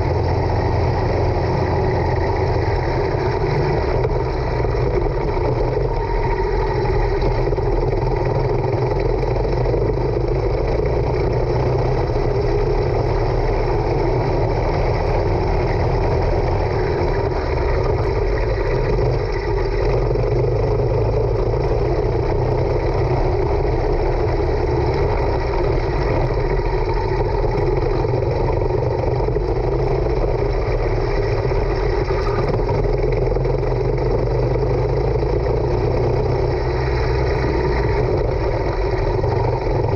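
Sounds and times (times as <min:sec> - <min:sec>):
kart engine running loudly: 0:00.0 - 0:39.9.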